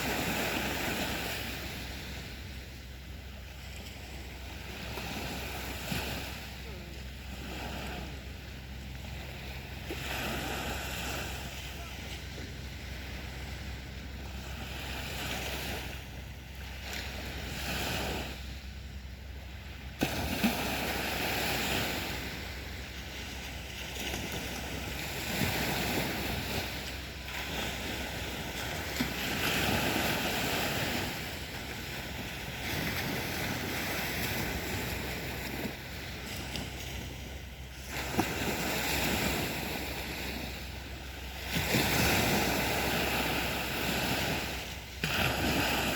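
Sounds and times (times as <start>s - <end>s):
surf breaking on a beach: 0.0s - 45.9s.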